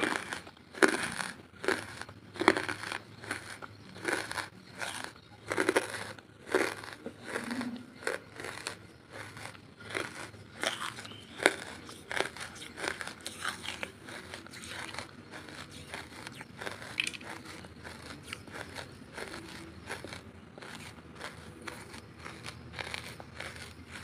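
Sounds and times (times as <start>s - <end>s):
charcoal being chewed crunching: 0.0s - 24.0s.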